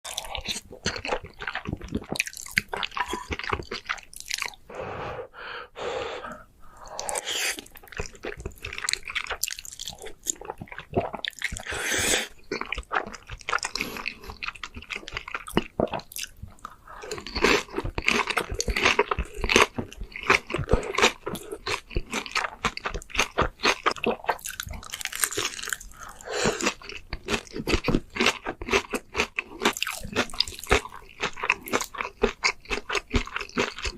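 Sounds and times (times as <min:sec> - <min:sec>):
person chewing food: 0:00.0 - 0:04.7, 0:06.2 - 0:33.9.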